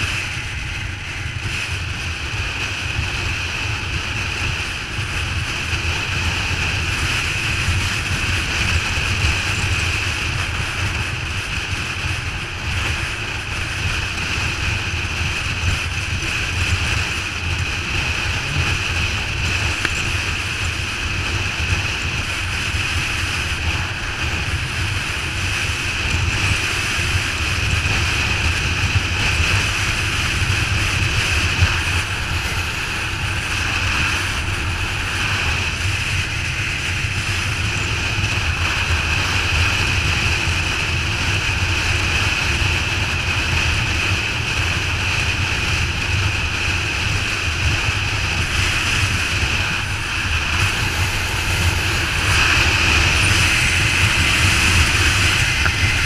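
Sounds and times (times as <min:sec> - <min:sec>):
motorcycle engine drone: 0:00.0 - 0:56.0
wind rushing on microphone: 0:00.0 - 0:56.0.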